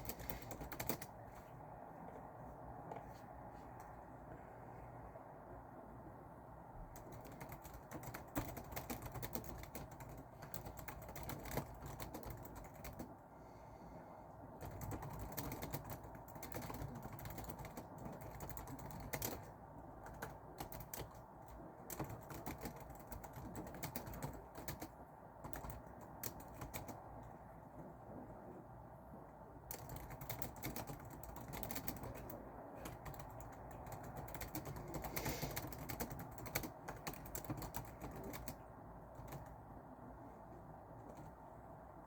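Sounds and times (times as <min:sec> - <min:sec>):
low background noise: 0:00.0 - 0:42.0.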